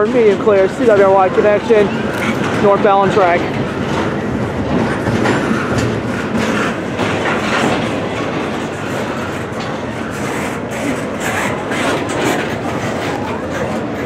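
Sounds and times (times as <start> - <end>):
freight train rumbling past: 0.0 - 14.0
wheels clacking over rail joints: 0.0 - 14.0.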